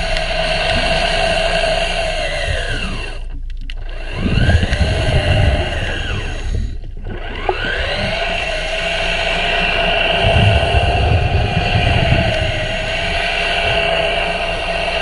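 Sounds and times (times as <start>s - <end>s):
underwater hull brush motor whine: 0.0s - 15.0s.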